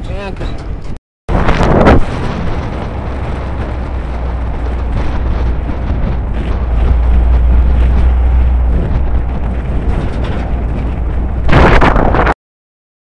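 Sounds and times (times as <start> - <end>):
road and engine rumble: 0.0 - 12.4
wind buffeting microphone: 0.0 - 12.4.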